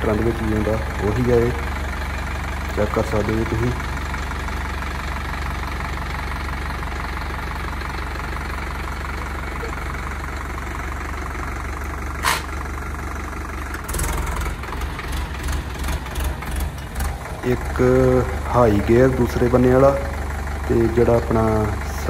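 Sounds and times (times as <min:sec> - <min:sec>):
tractor diesel engine running: 0:00.0 - 0:22.0
uneven low rumbling: 0:00.0 - 0:22.0.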